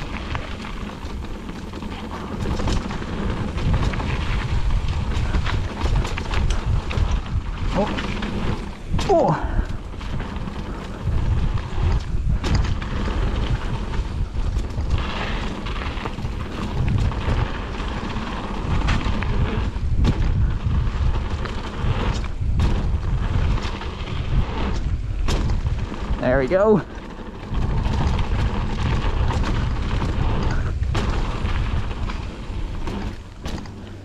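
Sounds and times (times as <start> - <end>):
bike knocks and rattles: 0.0 - 34.0
tyres rolling on dirt: 0.0 - 34.0
wind on microphone: 0.0 - 34.0.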